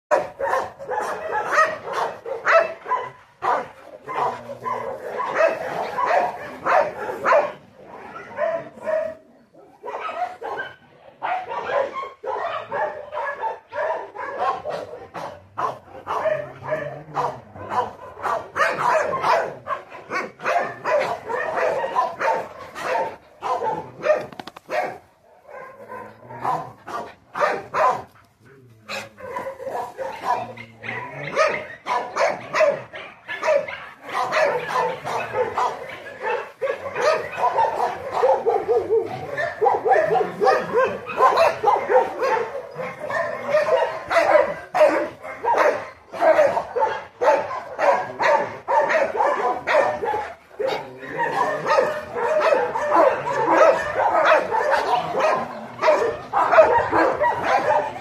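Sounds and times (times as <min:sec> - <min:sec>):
dog barking: 0:00.1 - 0:58.0.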